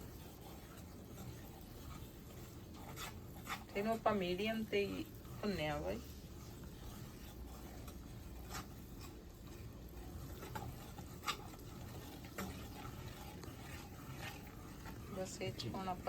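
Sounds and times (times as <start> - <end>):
spatula scraping a pan: 0.0 - 16.0.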